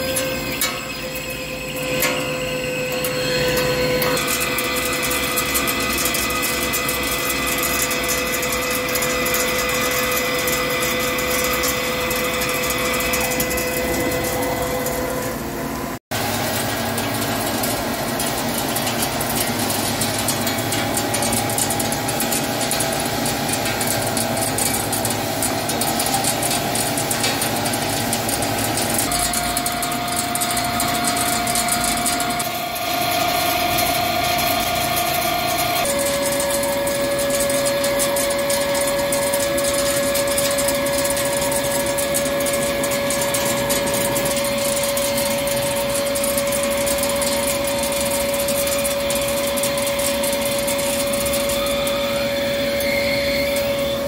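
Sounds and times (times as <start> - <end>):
lathe running: 0.0 - 54.0
steady machine whine: 0.0 - 54.0.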